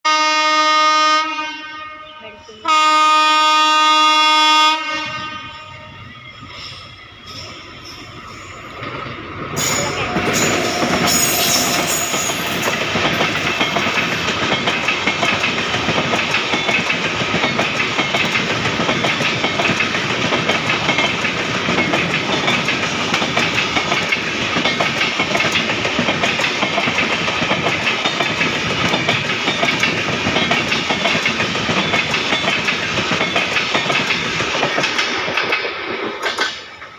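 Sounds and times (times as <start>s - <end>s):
passenger train passing at speed: 0.1s - 36.9s
wheels clacking over rail joints: 6.6s - 36.9s.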